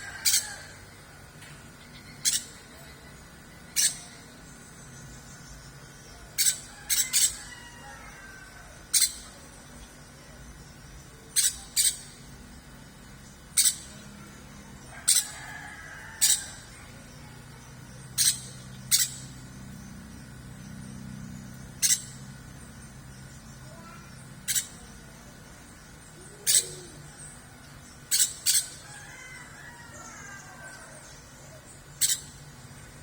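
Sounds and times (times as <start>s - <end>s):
faint bird calls: 0.0s - 33.0s.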